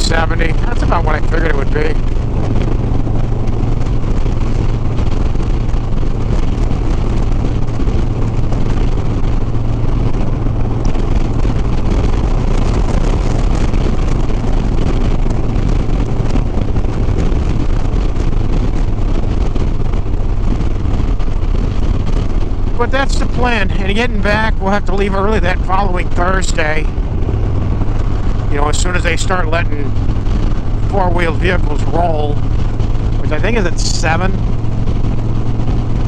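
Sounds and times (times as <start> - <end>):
motorcycle engine cruising: 0.0 - 36.0
wind rushing over microphone: 0.0 - 36.0.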